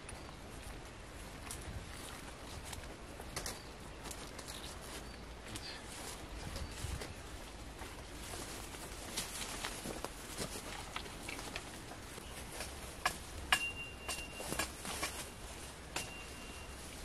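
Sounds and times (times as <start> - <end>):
footsteps through undergrowth: 0.0 - 17.0.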